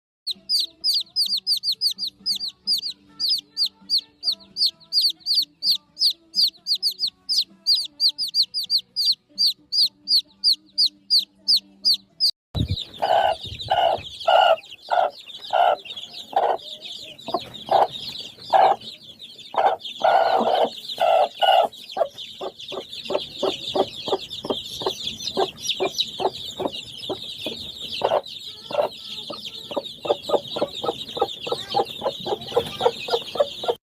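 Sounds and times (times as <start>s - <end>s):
chickens clucking: 0.3s - 33.8s
high falling chick chirps: 0.3s - 33.8s.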